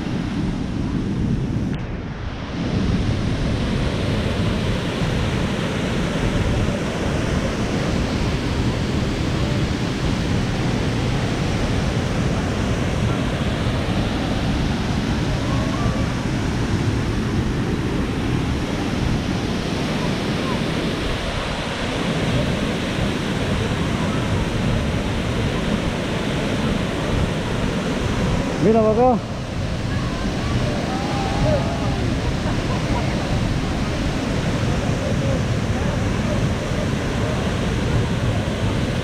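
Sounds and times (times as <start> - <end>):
waterfall rushing: 2.4 - 39.0.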